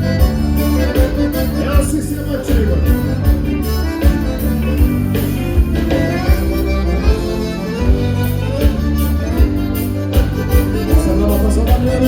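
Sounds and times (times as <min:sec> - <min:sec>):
accordion: 0:00.0 - 0:12.0
dance band playing: 0:00.0 - 0:12.0.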